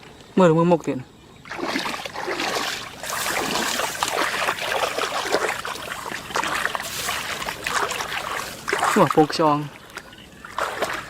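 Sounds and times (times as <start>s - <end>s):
floodwater splashing and sloshing: 1.4s - 11.0s.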